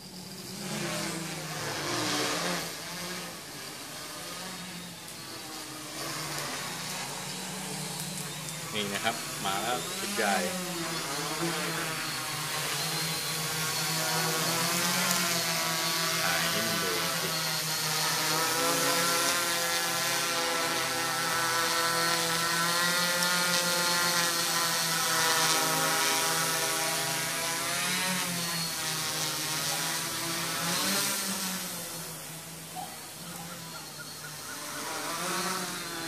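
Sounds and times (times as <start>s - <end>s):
drone propellers humming: 0.0s - 36.0s.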